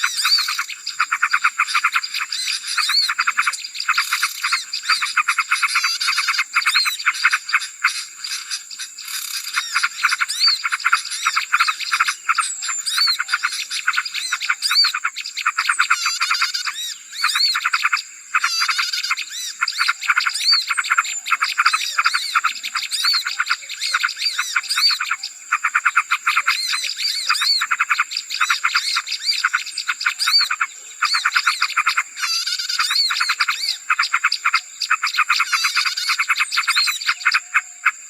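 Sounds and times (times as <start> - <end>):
songbirds chattering: 0.0 - 38.0.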